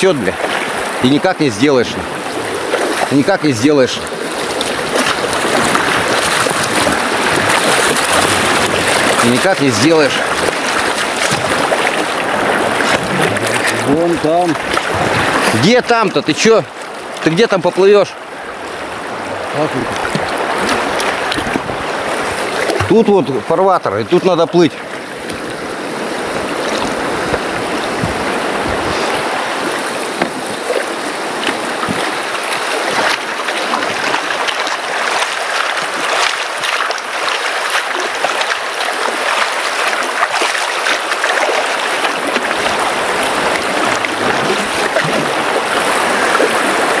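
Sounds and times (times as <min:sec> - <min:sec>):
river water rushing: 0:00.0 - 0:47.0.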